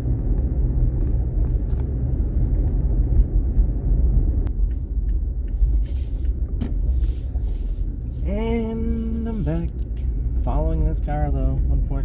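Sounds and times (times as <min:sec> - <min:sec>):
truck road rumble from inside cab: 0:00.0 - 0:12.0.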